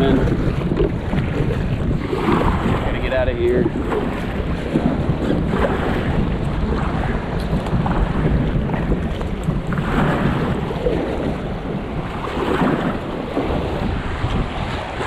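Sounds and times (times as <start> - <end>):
choppy river water rushing: 0.0 - 15.0
wind buffeting microphone: 0.0 - 15.0
paddle strokes swishing: 0.1 - 15.0.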